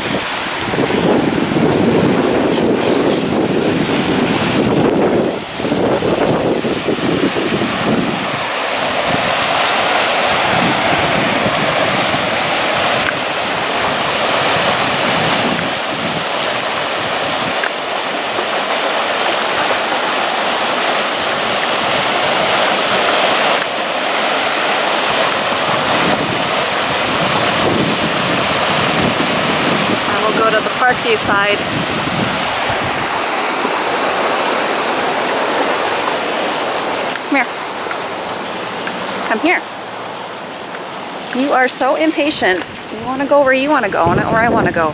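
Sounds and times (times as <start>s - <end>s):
floodwater rushing down channel: 0.0s - 44.9s.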